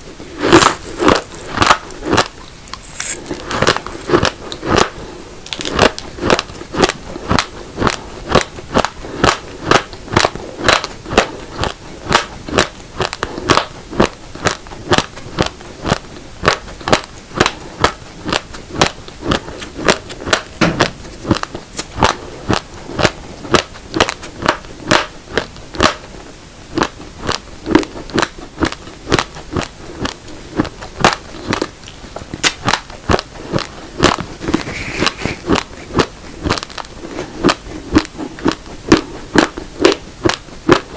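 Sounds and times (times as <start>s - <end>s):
crunching of raw rice chewed: 0.2s - 26.2s, 26.8s - 40.9s.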